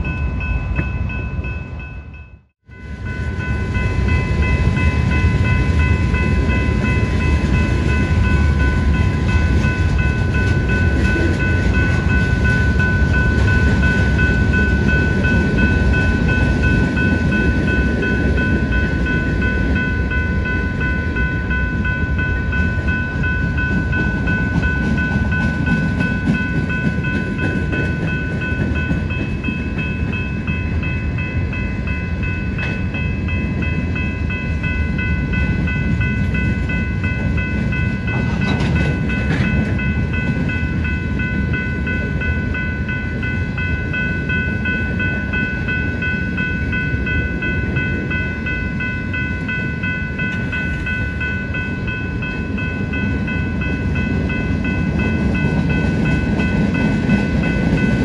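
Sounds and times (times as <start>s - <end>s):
high-pitched ringing tones: 0.0s - 58.0s
train wheels rumbling on rail: 0.0s - 58.0s.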